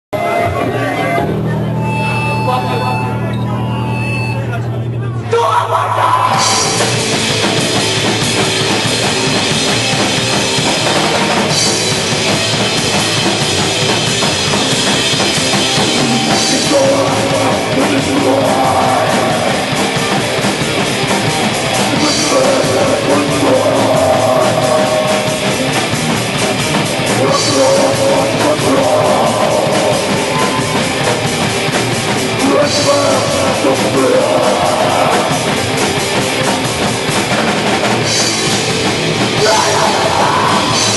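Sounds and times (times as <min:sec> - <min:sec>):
distorted guitars: 0:00.1 - 0:40.9
fast drum kit: 0:06.1 - 0:40.9.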